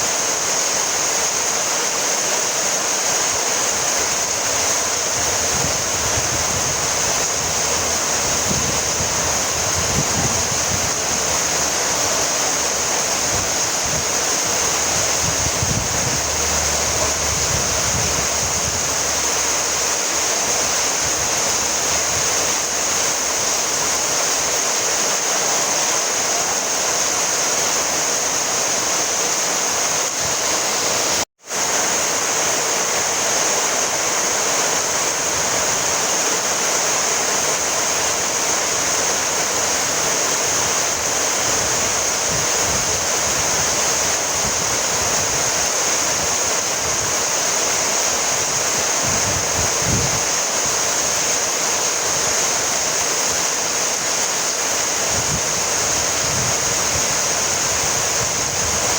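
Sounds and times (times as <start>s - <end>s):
steady rainfall: 0.0s - 58.9s.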